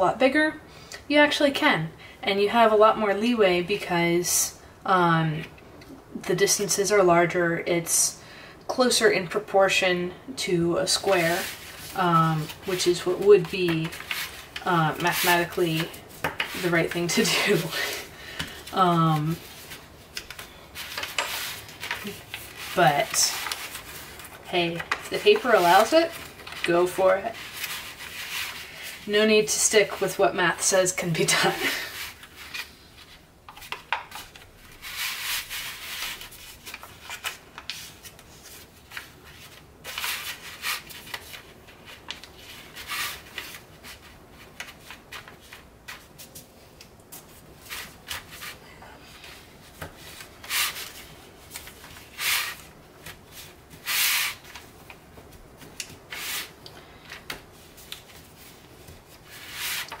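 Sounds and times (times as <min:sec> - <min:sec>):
paper rubbing and swishing: 0:10.9 - 0:30.2, 0:31.2 - 1:00.0.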